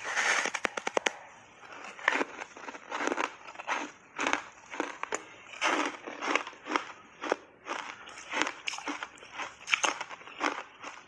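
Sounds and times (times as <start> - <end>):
ice being chewed and crunched: 0.4 - 11.0.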